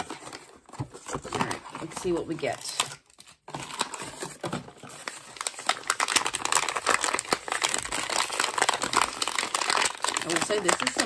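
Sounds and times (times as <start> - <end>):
paper packaging crinkling: 0.0 - 11.0.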